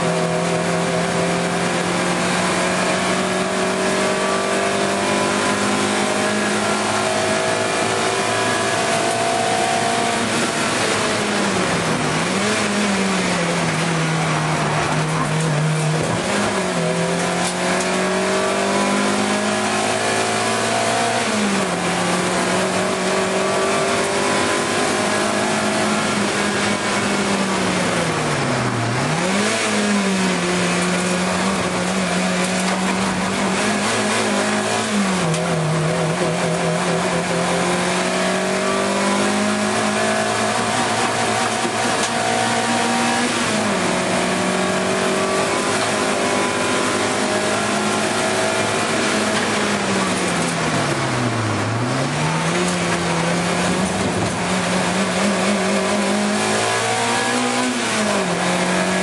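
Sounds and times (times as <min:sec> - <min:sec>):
racing car engine under load: 0:00.0 - 0:59.0.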